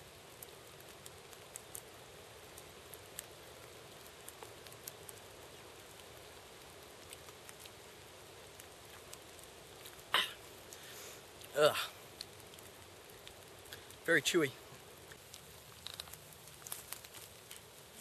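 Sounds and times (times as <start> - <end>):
insect being chewed crunching: 0.0 - 18.0
outdoor hiss: 0.0 - 18.0.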